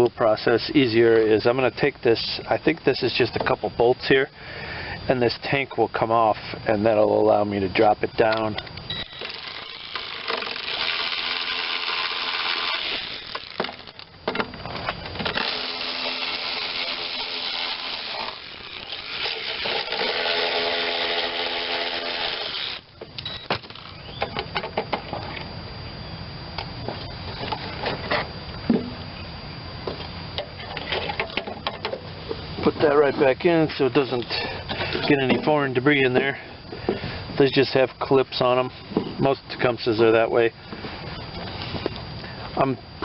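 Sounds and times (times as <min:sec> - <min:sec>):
power driver running: 0:01.1 - 0:43.0.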